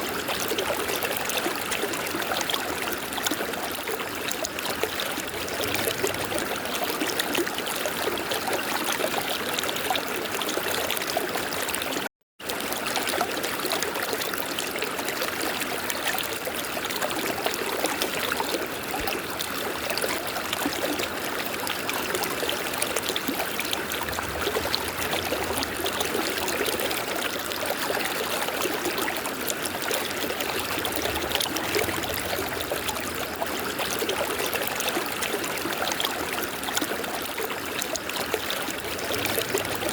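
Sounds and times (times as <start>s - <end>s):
river water flowing: 0.0s - 11.9s, 12.5s - 39.9s.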